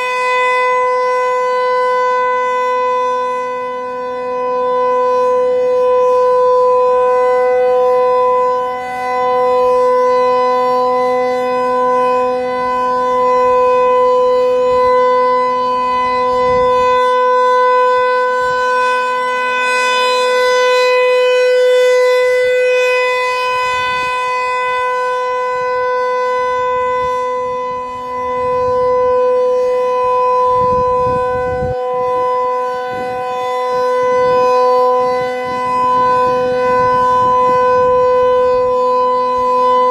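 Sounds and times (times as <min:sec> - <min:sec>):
single-tone siren: 0:00.0 - 0:39.9.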